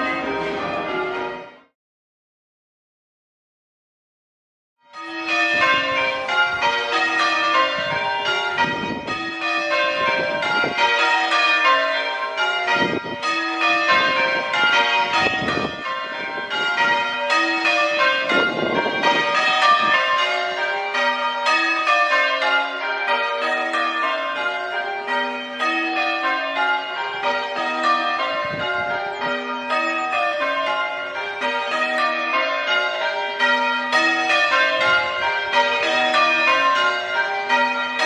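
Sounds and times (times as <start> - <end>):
church bells change ringing: 0.0 - 1.7, 4.9 - 38.0.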